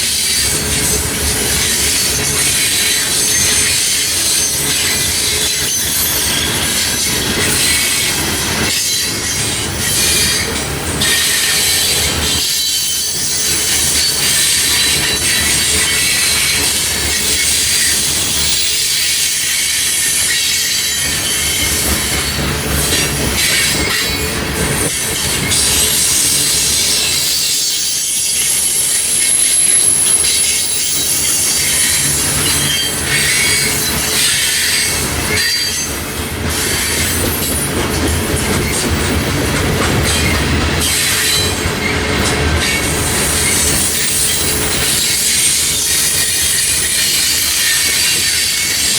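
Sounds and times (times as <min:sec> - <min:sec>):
freight train rumbling and clattering: 0:00.0 - 0:48.9
train wheels squealing: 0:00.0 - 0:48.9.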